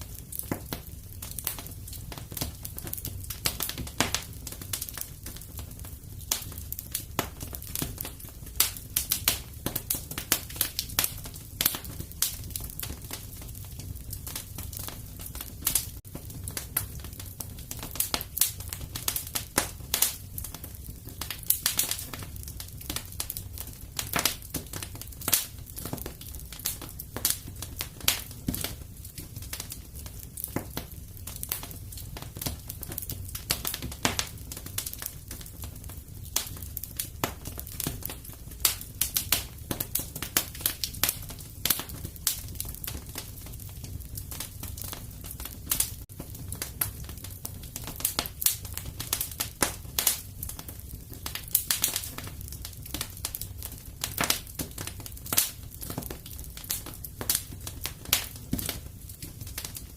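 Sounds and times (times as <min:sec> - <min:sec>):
fire pops and snaps: 0:00.0 - 0:59.9
low rumble of flame: 0:00.0 - 0:59.9
wood fire crackling: 0:00.0 - 0:59.9.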